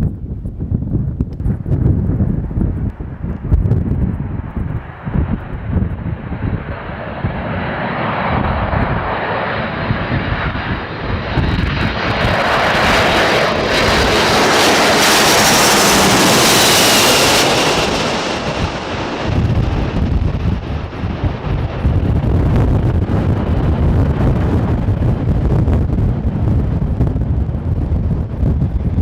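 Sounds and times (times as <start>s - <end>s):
wind buffeting microphone: 0.0s - 29.0s
jet airliner engines: 0.1s - 29.0s.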